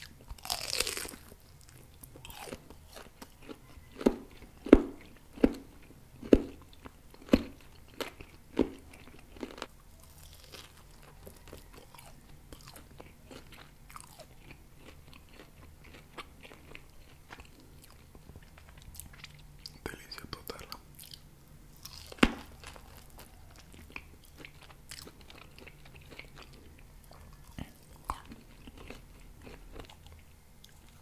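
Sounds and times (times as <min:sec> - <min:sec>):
loud chewing crunches: 0:00.0 - 0:19.8, 0:20.4 - 0:31.0
soft chewing clicks: 0:00.0 - 0:31.0.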